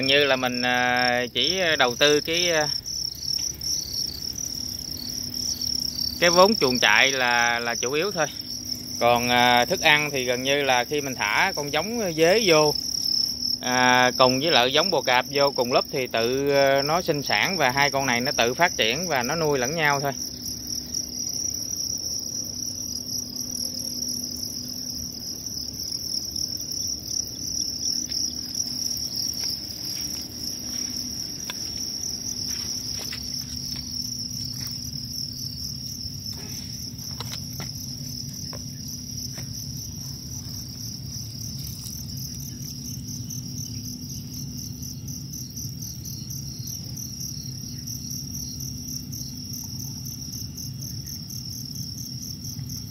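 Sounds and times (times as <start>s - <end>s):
crickets chirping: 0.0s - 52.9s.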